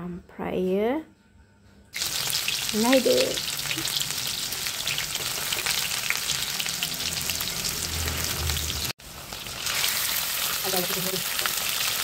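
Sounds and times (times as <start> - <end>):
oil sizzling in wok: 2.0 - 12.0.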